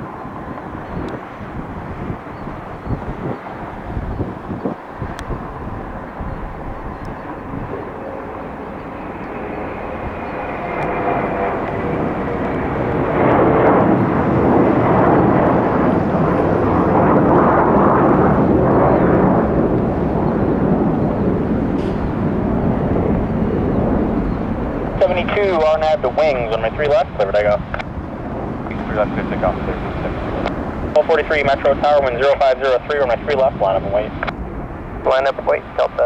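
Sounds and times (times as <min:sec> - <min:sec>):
jet taking off: 0:00.0 - 0:36.0.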